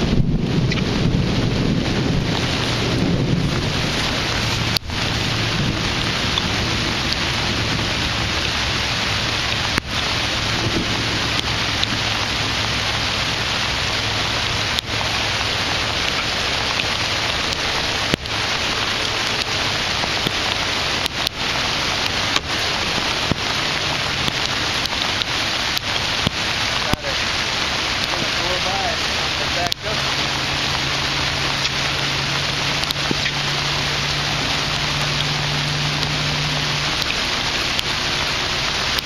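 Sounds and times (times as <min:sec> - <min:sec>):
rain falling on water: 0:00.0 - 0:39.0.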